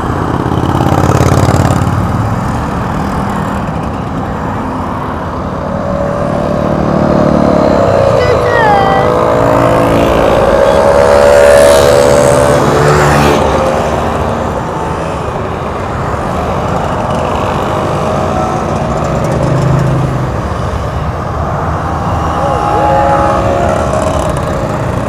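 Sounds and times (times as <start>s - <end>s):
motorcycles riding past: 0.0s - 25.0s.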